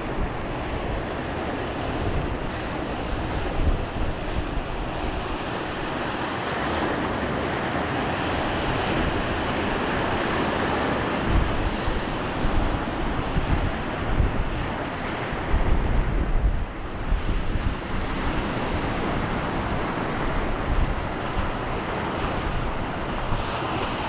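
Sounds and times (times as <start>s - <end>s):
wind buffeting microphone: 0.0s - 6.3s, 8.2s - 24.0s
surf washing onto shore: 0.0s - 24.0s.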